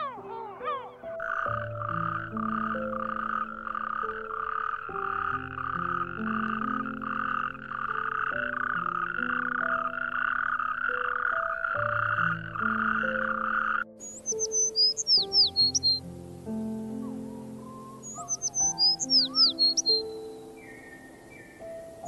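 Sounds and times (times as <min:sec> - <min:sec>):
toad croaking: 0:00.0 - 0:16.0, 0:16.8 - 0:20.2
soft background music: 0:00.0 - 0:22.0.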